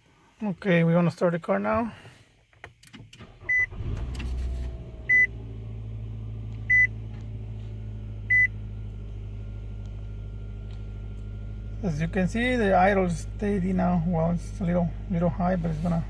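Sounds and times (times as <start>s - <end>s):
car engine starting and idling: 2.9s - 16.0s.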